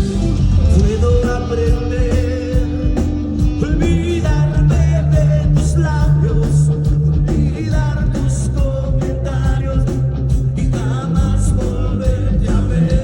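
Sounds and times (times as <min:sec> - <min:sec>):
drums beating: 0:00.0 - 0:13.0
heavy bass: 0:00.0 - 0:13.0
live rock band playing: 0:00.0 - 0:13.0.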